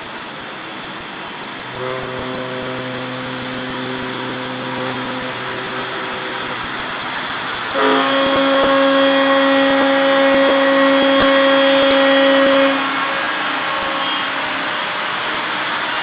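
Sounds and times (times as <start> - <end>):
background hiss: 0.0 - 16.0
ship horn long blast: 1.6 - 16.0.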